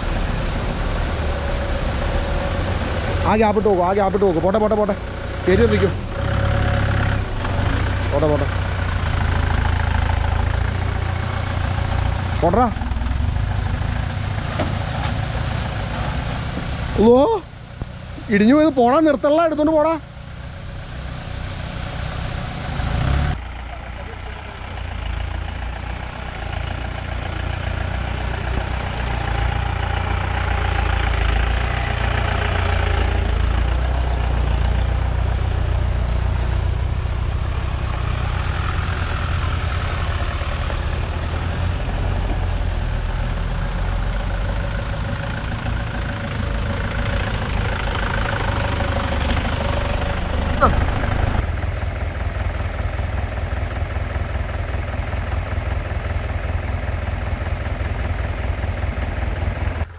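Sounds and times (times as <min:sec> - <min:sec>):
off-road vehicle engines: 0:00.0 - 0:59.9.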